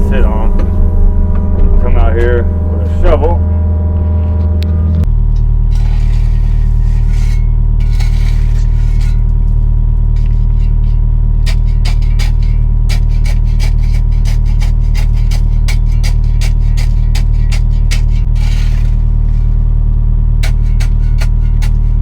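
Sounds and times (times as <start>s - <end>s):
excavator diesel engine running: 0.0s - 22.0s
scraping: 0.0s - 22.0s.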